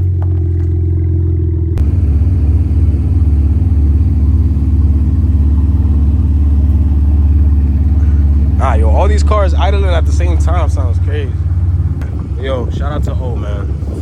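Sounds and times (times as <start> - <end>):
car exhaust idling: 0.0 - 14.0.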